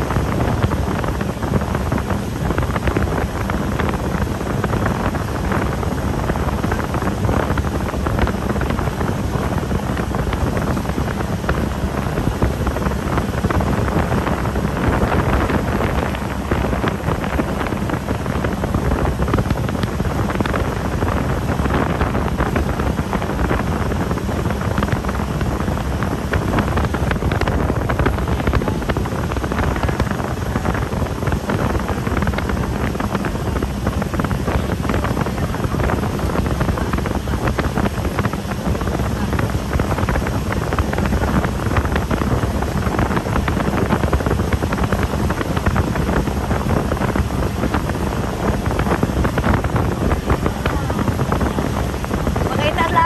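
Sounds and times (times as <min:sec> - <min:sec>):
low motor rumble: 0:00.0 - 0:53.0
wind buffeting microphone: 0:00.0 - 0:53.0.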